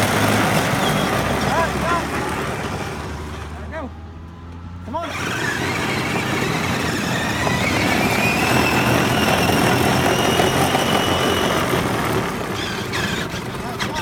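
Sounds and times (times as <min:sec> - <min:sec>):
wheels rumbling over ground: 0:00.0 - 0:14.0
electric toy car motor whining: 0:00.8 - 0:14.0.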